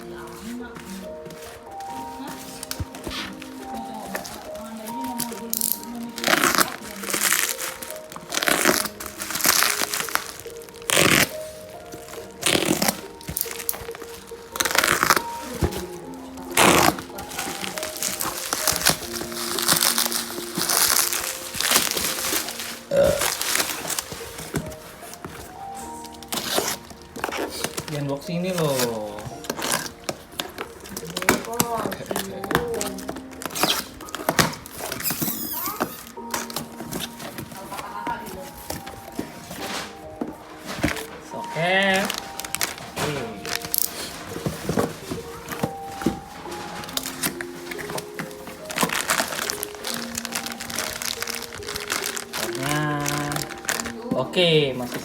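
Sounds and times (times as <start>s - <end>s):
faint background music: 0.0s - 55.0s
packaging crinkling: 0.0s - 55.0s.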